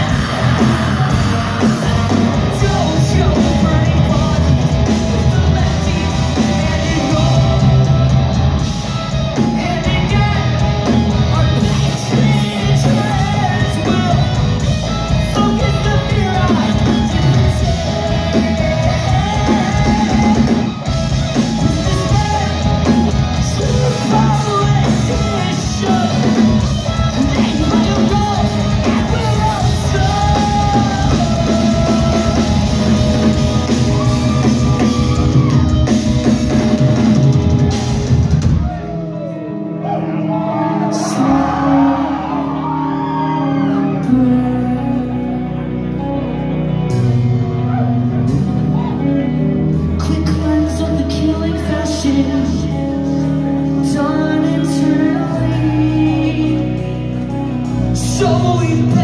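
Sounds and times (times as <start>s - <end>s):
distorted electric guitars: 0.0s - 59.0s
drums: 0.0s - 59.0s
rock band playing live: 0.0s - 59.0s.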